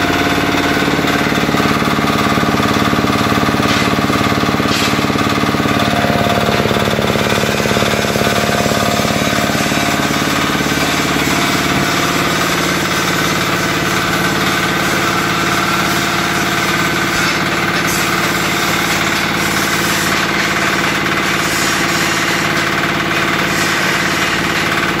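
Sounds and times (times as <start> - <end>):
diesel engine knocking: 0.0 - 25.0.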